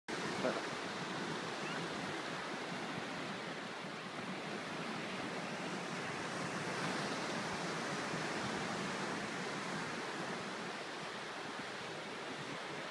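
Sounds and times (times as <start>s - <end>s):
ocean surf washing up beach: 0.1s - 12.9s.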